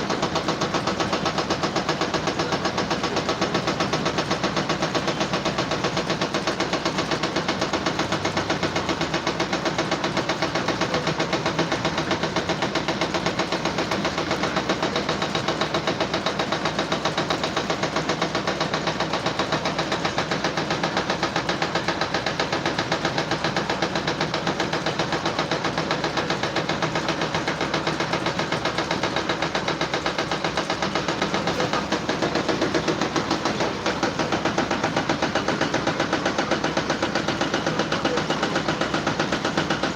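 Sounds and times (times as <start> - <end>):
machine running with fast pulse: 0.0 - 39.9.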